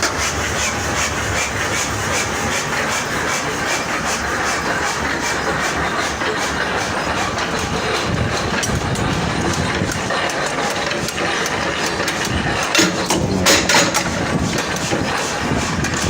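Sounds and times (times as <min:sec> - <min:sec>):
machinery running steadily: 0:00.0 - 0:16.0.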